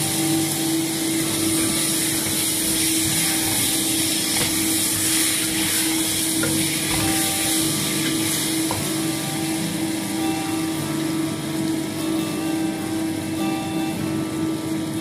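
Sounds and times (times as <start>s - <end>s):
extractor fan humming: 0.0s - 15.0s.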